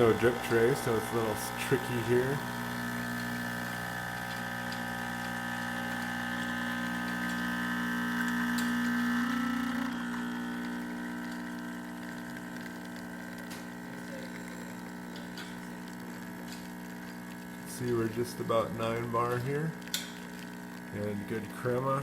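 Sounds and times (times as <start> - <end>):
espresso machine pump humming: 0.0 - 22.0
water flowing: 0.0 - 22.0.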